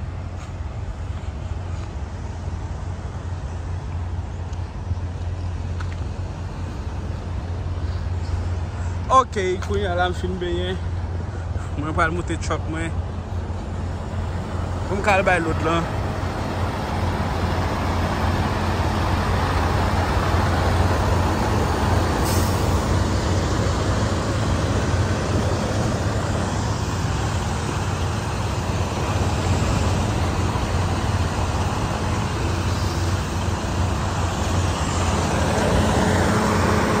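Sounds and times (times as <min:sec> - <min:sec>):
diesel truck engines rumbling: 0:00.0 - 0:37.0
traffic noise: 0:00.0 - 0:37.0.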